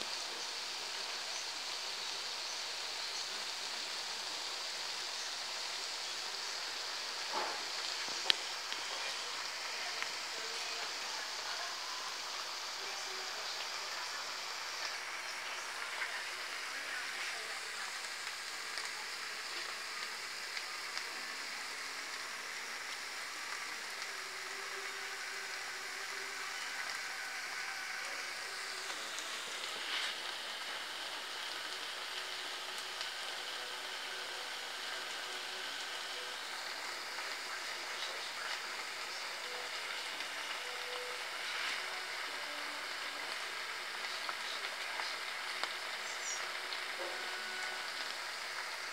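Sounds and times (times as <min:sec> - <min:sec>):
food simmering and sizzling: 0:00.0 - 0:48.9.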